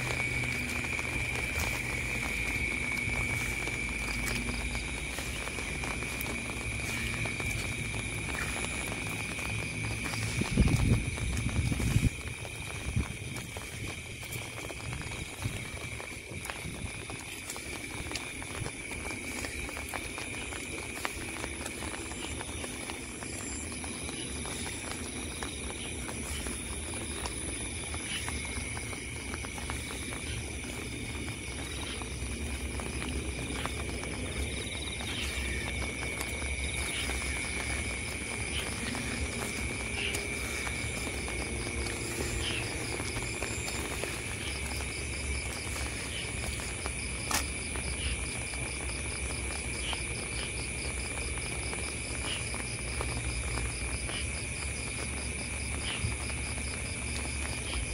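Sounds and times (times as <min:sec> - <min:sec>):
crickets trilling: 0:00.0 - 0:57.9
footsteps on wet ground: 0:00.0 - 0:57.9
rain patter: 0:00.0 - 0:57.9.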